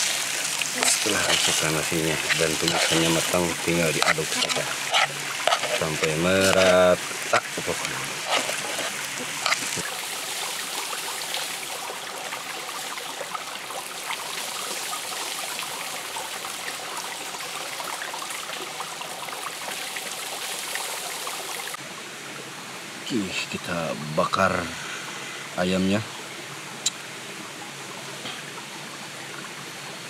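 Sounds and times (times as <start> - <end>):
stream running over rocks: 0.0 - 30.0.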